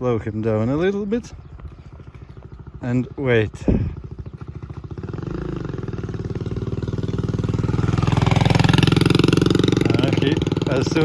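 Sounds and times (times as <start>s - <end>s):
vehicle engine approaching: 0.0s - 11.0s.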